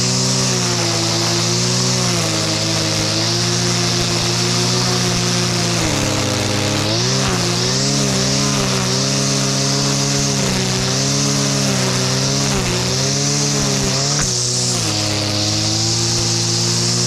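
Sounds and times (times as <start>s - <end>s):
brushcutter trimming grass: 0.0s - 17.0s.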